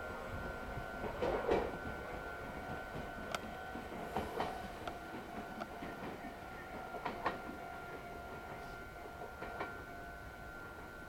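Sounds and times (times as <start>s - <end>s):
faint steady high tone: 0.0s - 11.0s
train wheels clicking over rail joints: 0.4s - 9.8s.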